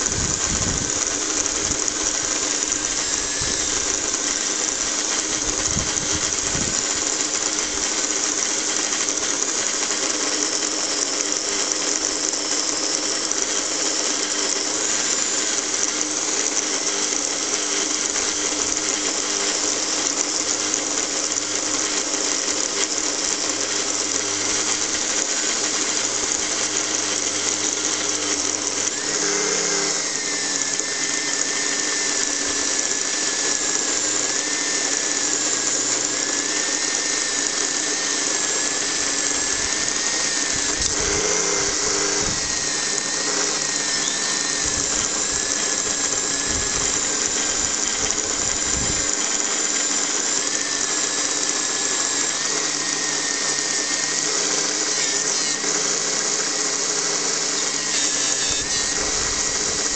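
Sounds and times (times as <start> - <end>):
bench grinder running: 0.0 - 59.9.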